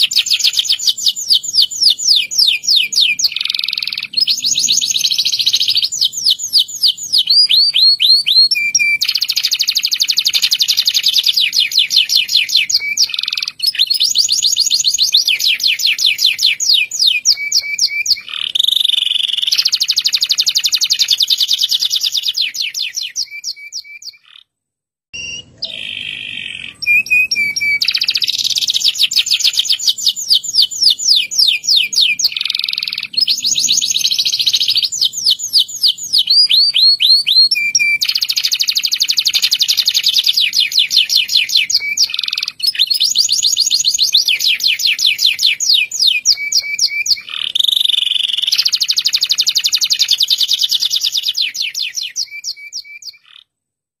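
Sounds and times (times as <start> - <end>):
canary trilling: 0.0 - 24.5, 25.2 - 53.5.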